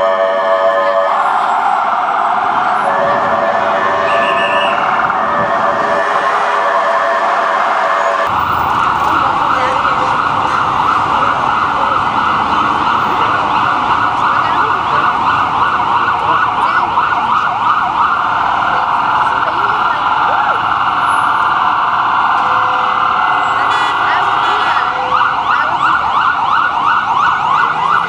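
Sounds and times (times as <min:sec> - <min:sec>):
ambulance siren: 0:00.0 - 0:28.0
fast yelping siren: 0:00.0 - 0:28.0
low traffic rumble: 0:00.0 - 0:28.0.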